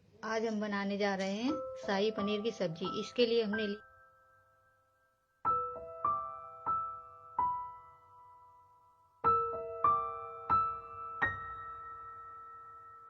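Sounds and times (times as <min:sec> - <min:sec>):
slow piano notes: 0:00.0 - 0:13.0.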